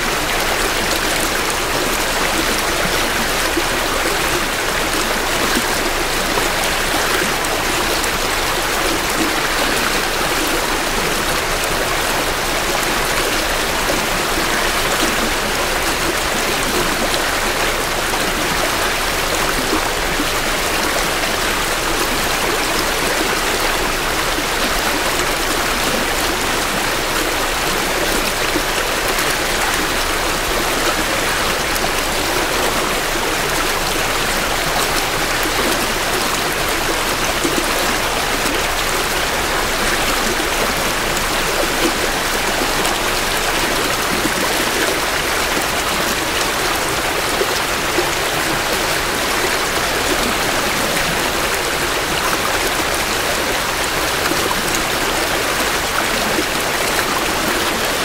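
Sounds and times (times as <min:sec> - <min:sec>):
creek babbling over rocks: 0:00.0 - 0:58.0.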